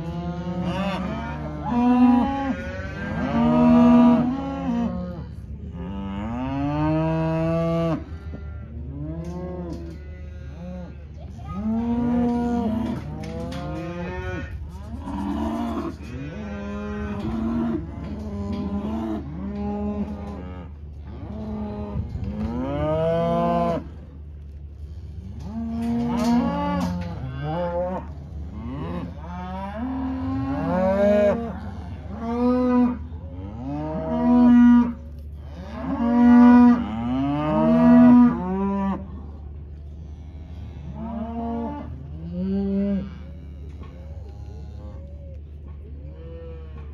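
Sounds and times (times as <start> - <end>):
cows and calves mooing: 0.0 - 46.9.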